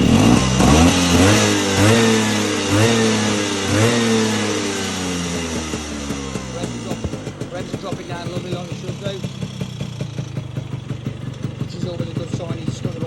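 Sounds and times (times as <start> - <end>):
scooter engine revving: 0.0 - 13.0.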